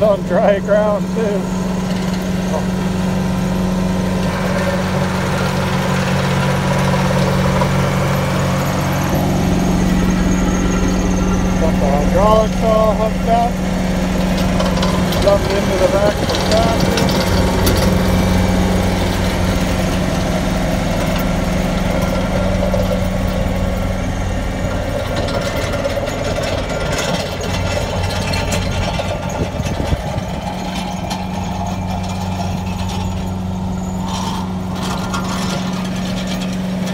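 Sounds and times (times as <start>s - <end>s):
tractor engine running: 0.0s - 36.9s
vibrating roller low hum: 0.0s - 36.9s.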